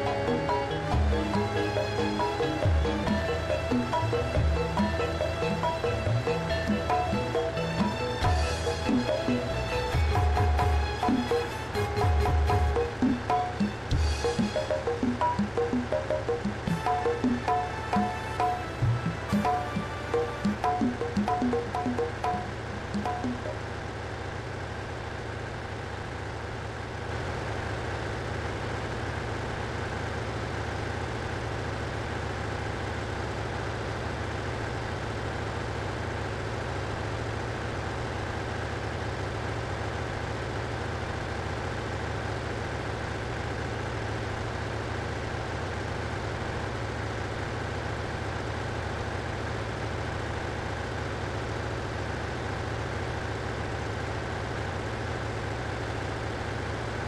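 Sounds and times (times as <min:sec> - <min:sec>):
engine-room machinery drone: 0:00.0 - 0:57.0.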